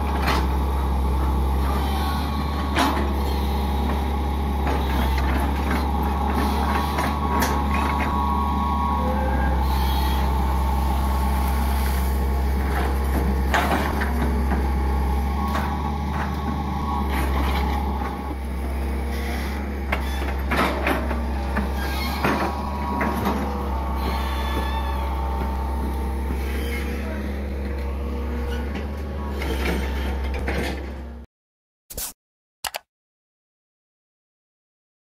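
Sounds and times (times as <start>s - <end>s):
excavator diesel engine running: 0.0s - 31.2s.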